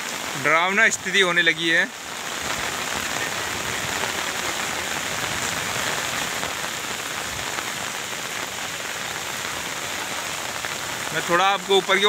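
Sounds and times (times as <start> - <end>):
heavy rain on paved road: 0.0 - 12.0.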